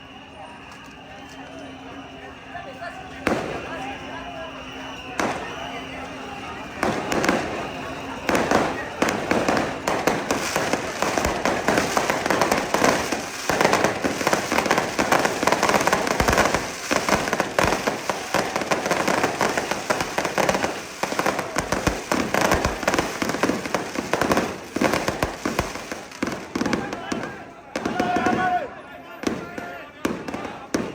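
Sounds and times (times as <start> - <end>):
firecrackers crackling: 0.0 - 30.9.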